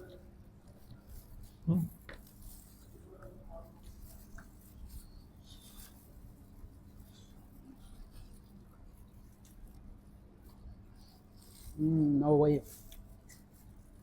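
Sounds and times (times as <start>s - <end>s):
chewing and handling food: 0.6s - 11.8s, 12.5s - 14.0s.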